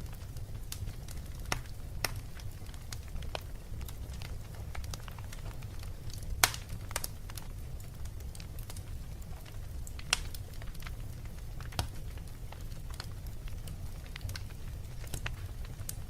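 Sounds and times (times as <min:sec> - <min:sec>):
fire crackling in a fireplace: 0:00.0 - 0:16.0
sharp pops of burning wood: 0:00.2 - 0:08.8, 0:09.4 - 0:11.0, 0:11.6 - 0:16.0.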